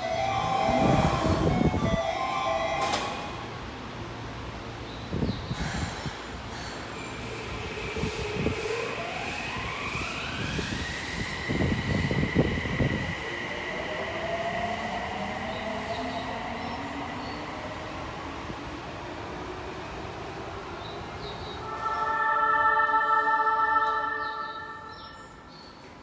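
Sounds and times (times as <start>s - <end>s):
train electric motors whining: 0.0s - 3.8s, 5.6s - 25.4s.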